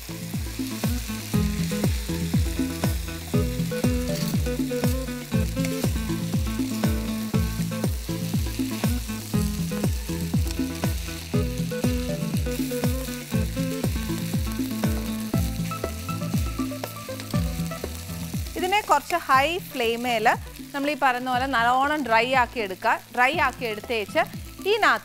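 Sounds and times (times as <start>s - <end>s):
background music with drum beat: 0.0s - 25.0s
noodles sizzling in a pan: 0.0s - 25.0s.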